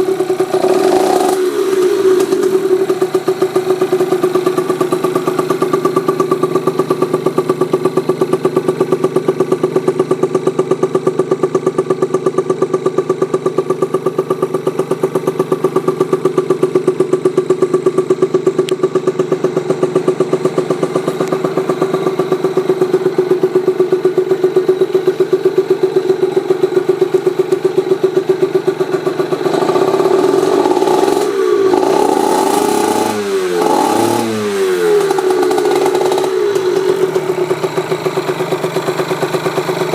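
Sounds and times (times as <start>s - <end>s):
two-stroke engine idling and revving: 0.0s - 39.9s.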